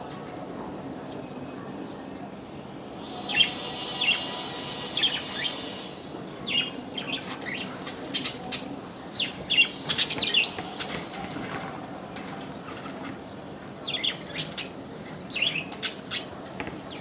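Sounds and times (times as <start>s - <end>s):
steady background hiss: 0.0s - 16.4s
small birds chirping: 2.8s - 17.0s.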